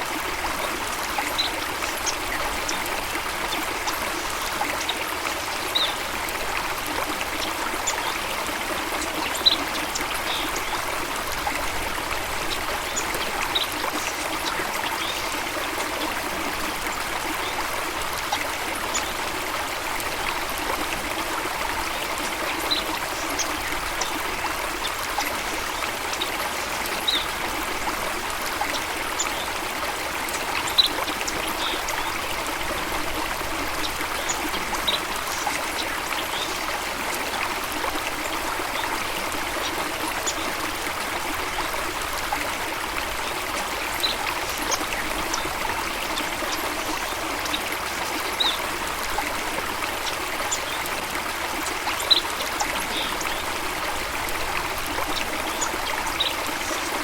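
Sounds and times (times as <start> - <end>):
flowing water: 0.0 - 57.0.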